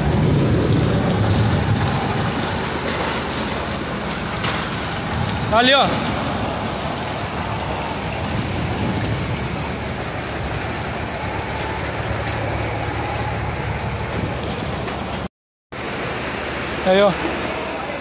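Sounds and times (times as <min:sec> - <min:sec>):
floodwater flowing through street: 0:00.0 - 0:18.0
heavy rain: 0:00.0 - 0:18.0.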